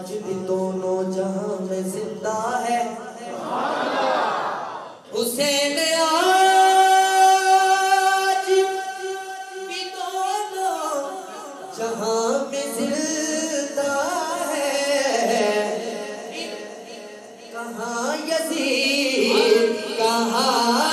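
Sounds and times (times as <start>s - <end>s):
man singing into a microphone: 0.0s - 3.3s, 5.1s - 20.9s.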